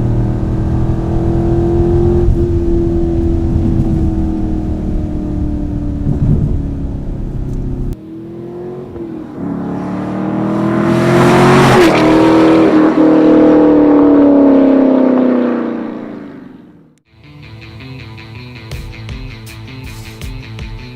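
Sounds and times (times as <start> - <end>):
car engine rumbling and accelerating: 0.0 - 17.0.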